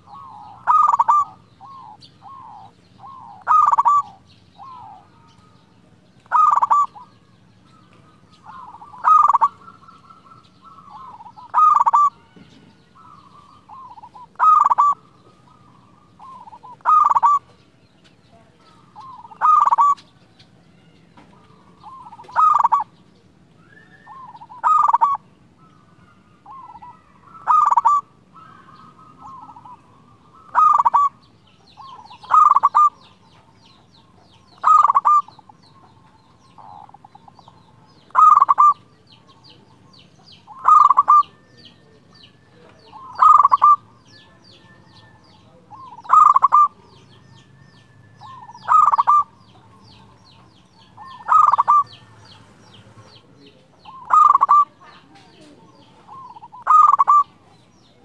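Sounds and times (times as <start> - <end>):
dove trilled cooing: 0.0 - 58.0.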